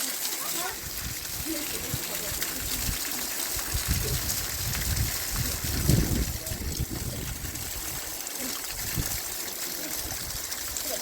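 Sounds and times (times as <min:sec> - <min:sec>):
steady rain hiss: 0:00.0 - 0:11.0
water trickling: 0:00.0 - 0:11.0.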